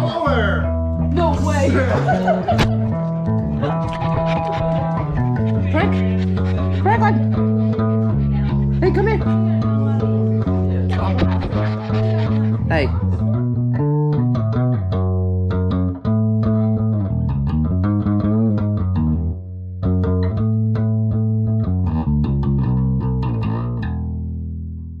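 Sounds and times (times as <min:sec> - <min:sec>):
electric bass guitar: 0:00.0 - 0:25.0.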